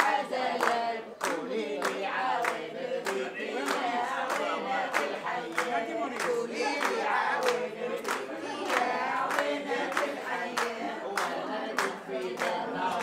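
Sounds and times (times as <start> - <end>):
group of people singing: 0.0 - 13.0
people clapping in time: 0.0 - 13.0.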